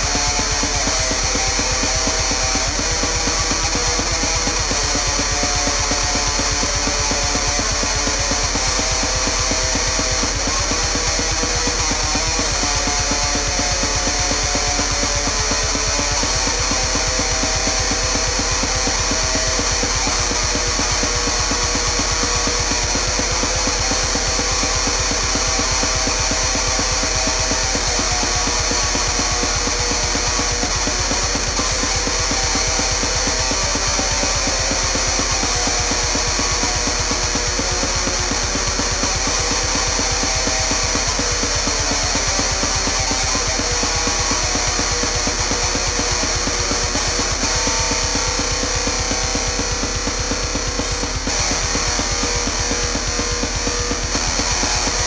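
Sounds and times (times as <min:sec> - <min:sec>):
drum kit beat: 0:00.0 - 0:55.0
heavy metal guitar riffing: 0:00.0 - 0:55.0.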